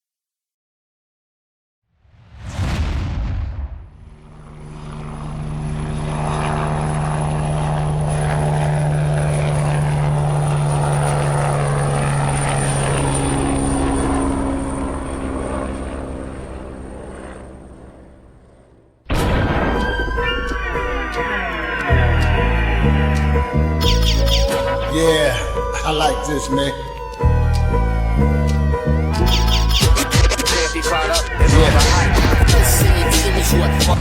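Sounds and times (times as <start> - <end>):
aircraft engine drone with whine: 4.1 - 34.0.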